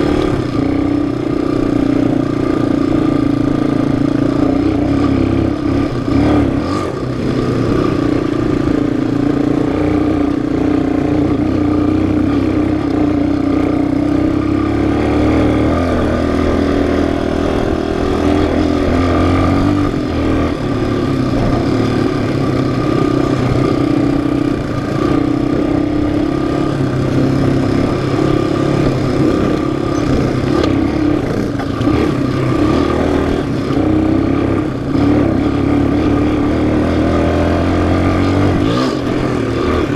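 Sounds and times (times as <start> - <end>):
off-road engine running: 0.0 - 39.9.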